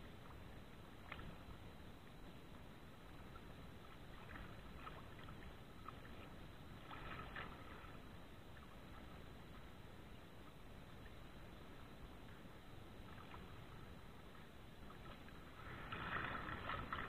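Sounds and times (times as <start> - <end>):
choppy water lapping: 0.0 - 17.0
low wind rumble: 0.0 - 17.0
soft water splashes: 0.0 - 17.0.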